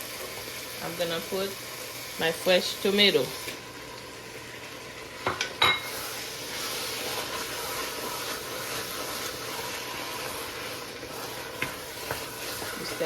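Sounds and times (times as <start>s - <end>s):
pot sizzling with a hiss: 0.0s - 13.0s.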